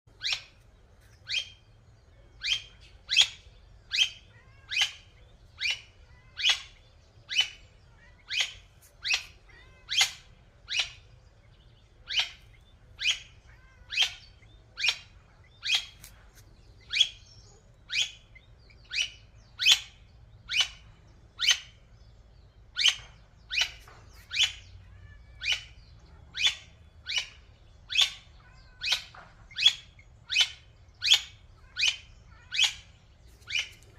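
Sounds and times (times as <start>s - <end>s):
animal high-pitched chirping calls: 0.1s - 0.6s, 1.2s - 1.6s, 2.4s - 11.2s, 12.0s - 21.9s, 22.7s - 33.9s.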